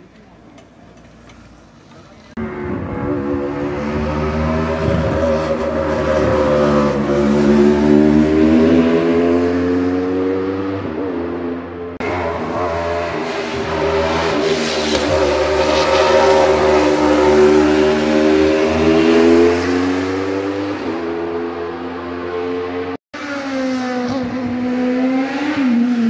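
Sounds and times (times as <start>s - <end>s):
race car engine revving: 2.4s - 26.0s.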